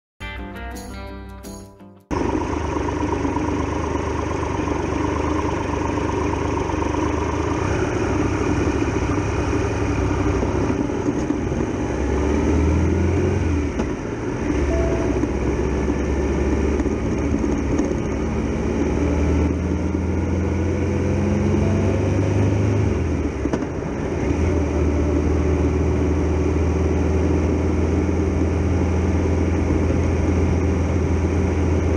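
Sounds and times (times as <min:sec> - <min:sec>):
motorcycle engine running: 0:02.1 - 0:31.9.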